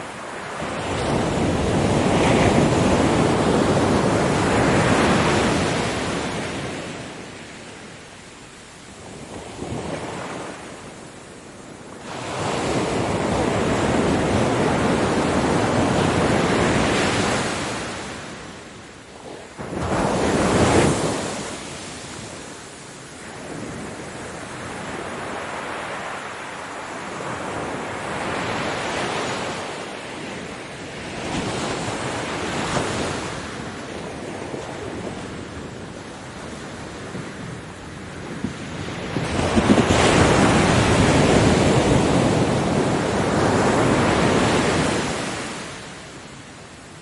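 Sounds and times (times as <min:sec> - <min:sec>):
ocean waves breaking on a beach: 0:00.0 - 0:47.0.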